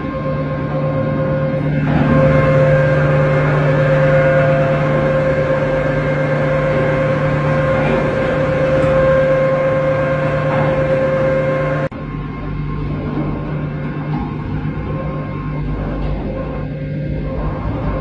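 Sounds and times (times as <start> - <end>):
anchor windlass machinery hum: 0.0 - 18.0.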